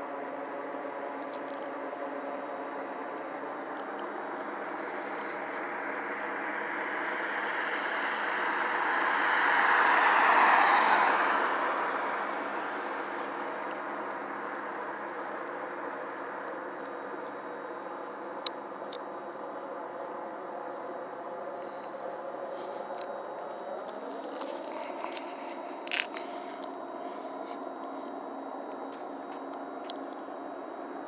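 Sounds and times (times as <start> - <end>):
helicopter drone overhead: 0.0 - 31.0
vehicle passing on road: 0.5 - 29.2.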